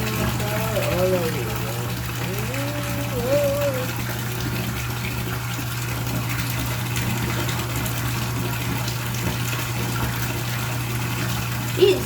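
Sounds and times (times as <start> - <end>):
rushing water-like noise: 0.0 - 12.0.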